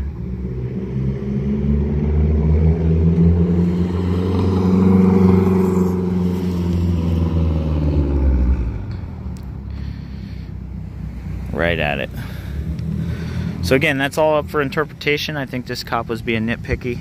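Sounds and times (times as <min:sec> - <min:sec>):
car driving past: 0:00.0 - 0:14.7.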